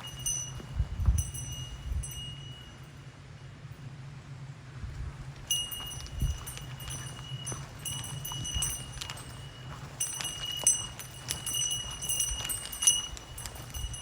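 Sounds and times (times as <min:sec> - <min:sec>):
footsteps on a trail: 0:00.0 - 0:02.9, 0:04.9 - 0:14.0
small bell jingling: 0:00.0 - 0:03.1, 0:05.4 - 0:14.0.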